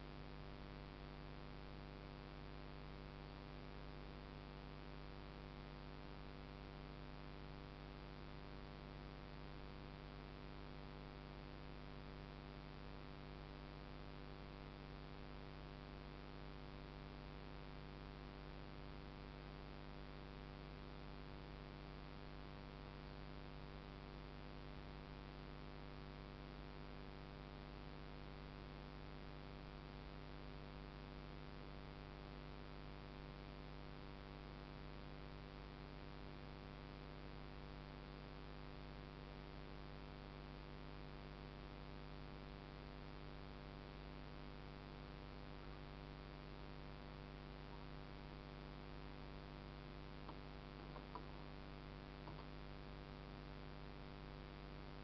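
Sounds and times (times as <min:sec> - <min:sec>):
faint electrical hum with hiss: 0:00.0 - 0:55.0.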